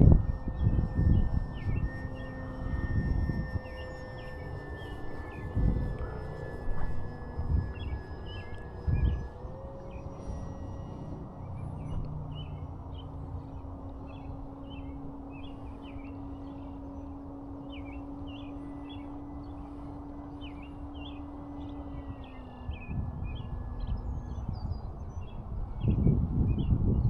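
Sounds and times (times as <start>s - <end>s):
electric motor and propeller whining: 0.0s - 27.0s
birds chirping: 0.2s - 26.8s.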